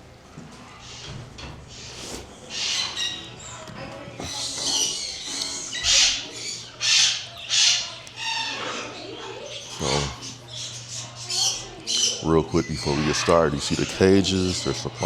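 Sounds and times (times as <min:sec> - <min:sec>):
parrots squawking: 0:01.7 - 0:15.0.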